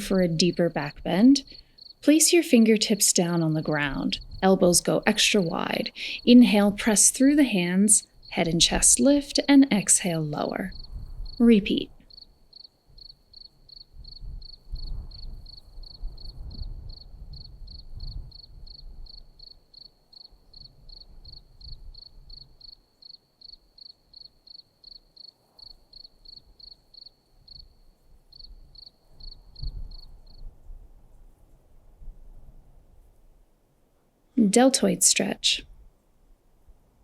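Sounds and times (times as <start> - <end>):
cricket chirping: 0.0 - 30.5.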